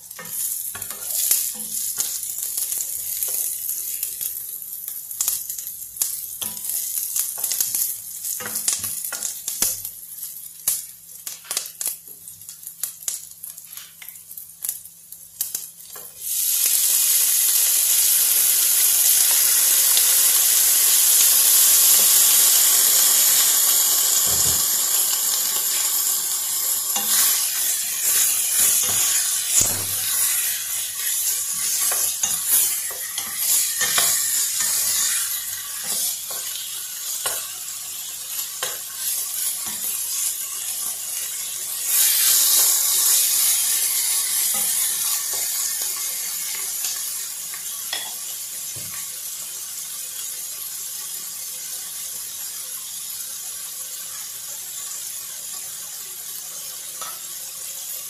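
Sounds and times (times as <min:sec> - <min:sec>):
chicken and onion sizzling in a pan: 0:00.0 - 0:58.0.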